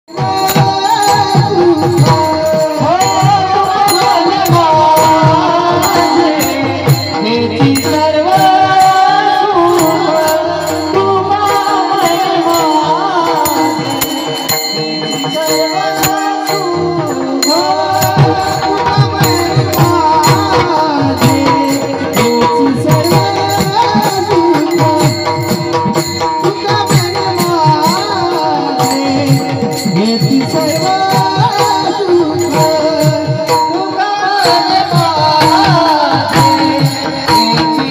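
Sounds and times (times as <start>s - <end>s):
person singing devotional song: 0.0s - 37.9s
instrumental accompaniment: 0.1s - 37.9s
sharp percussive strokes: 0.1s - 37.9s.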